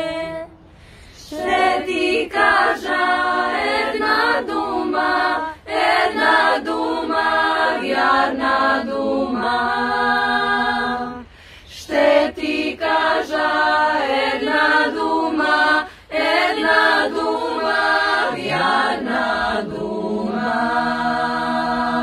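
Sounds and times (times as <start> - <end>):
women's a cappella group singing: 0.0 - 0.5, 1.2 - 22.0.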